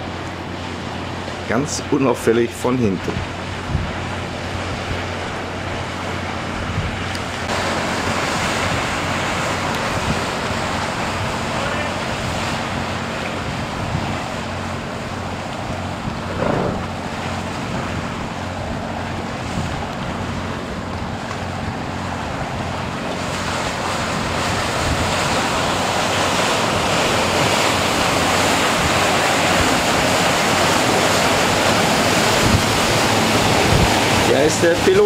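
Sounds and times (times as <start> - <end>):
sea water rushing and splashing: 0.0 - 35.0
wind buffeting microphone: 3.0 - 35.0.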